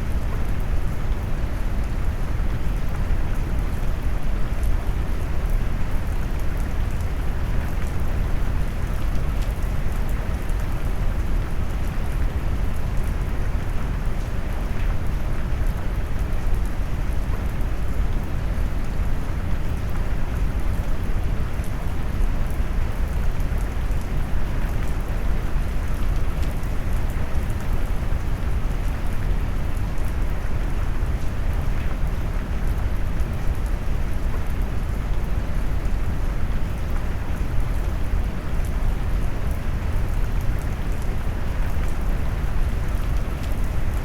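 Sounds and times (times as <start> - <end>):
faint raindrop ticks: 0.2 - 44.0.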